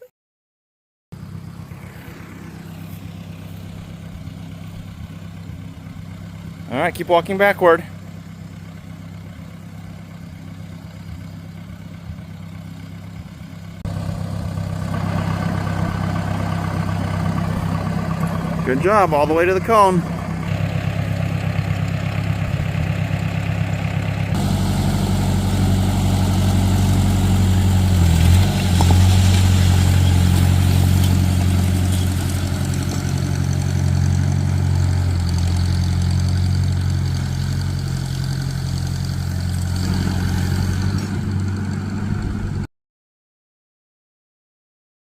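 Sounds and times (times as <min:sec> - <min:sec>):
engine running: 0:01.1 - 0:42.7.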